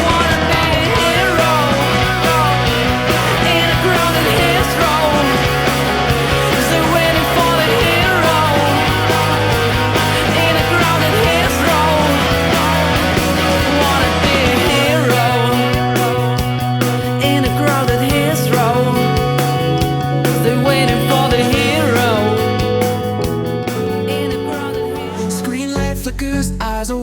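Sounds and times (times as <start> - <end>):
instrumental rock music: 0.0 - 27.0.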